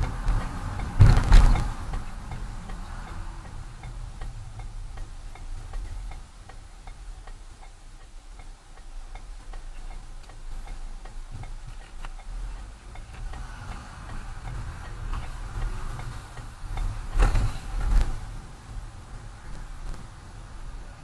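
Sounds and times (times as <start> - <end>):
road and engine rumble: 0.0 - 21.0
turn signal ticking: 0.0 - 21.0.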